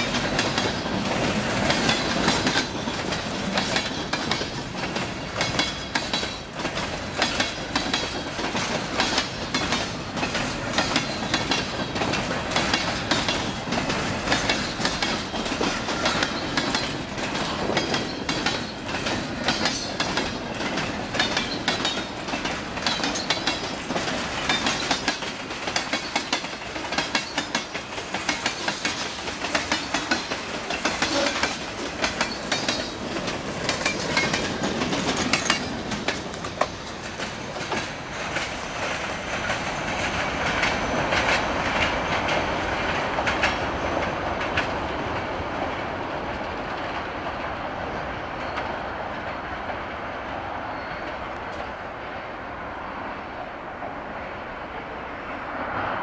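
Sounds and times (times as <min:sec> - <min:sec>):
wheels clicking on rails: 0:00.0 - 0:49.8
freight train rolling past: 0:00.0 - 0:56.0.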